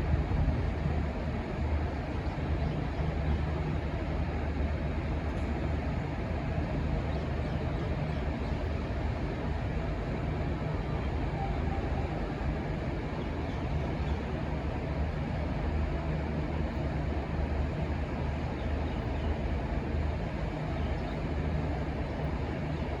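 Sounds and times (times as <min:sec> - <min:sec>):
diesel locomotive engines rumbling: 0:00.0 - 0:23.0.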